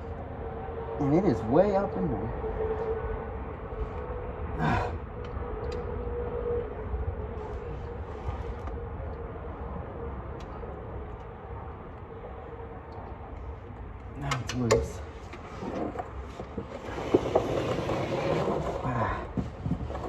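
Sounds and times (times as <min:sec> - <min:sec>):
low machine hum with held tone: 0:00.0 - 0:20.0.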